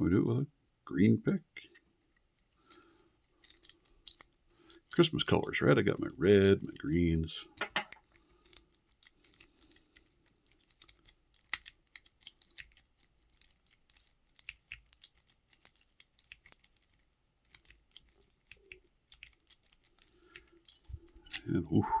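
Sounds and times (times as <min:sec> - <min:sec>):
lock pick clicking on pins: 0:01.6 - 0:05.1, 0:05.8 - 0:21.5.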